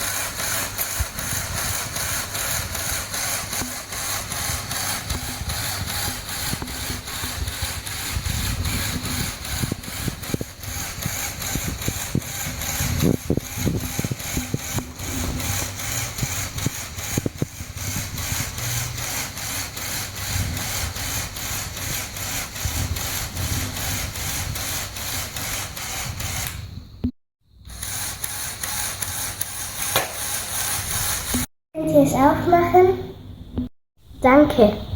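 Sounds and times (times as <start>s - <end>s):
fast regular ticking: 0.0s - 26.6s, 27.7s - 31.5s
small electric motor running: 0.0s - 26.8s, 27.7s - 31.5s.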